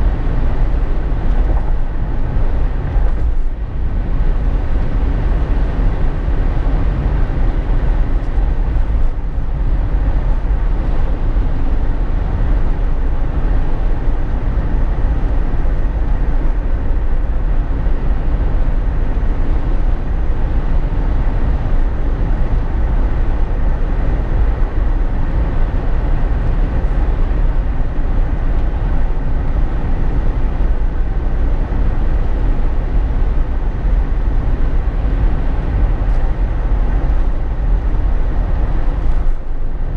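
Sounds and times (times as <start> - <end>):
car cabin driving rumble: 0.0 - 39.9.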